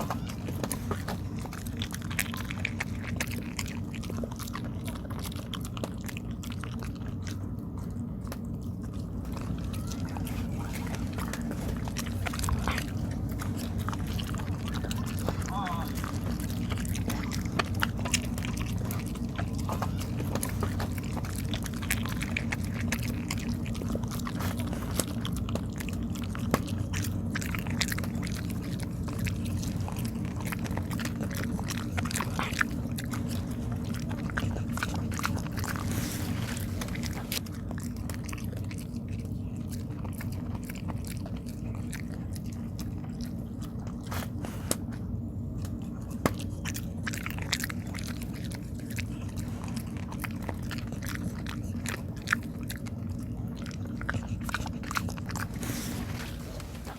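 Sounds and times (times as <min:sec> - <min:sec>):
jaw clicks: 0:00.0 - 0:55.6
dog chewing: 0:00.0 - 0:56.9
steady low hum: 0:00.0 - 0:56.9.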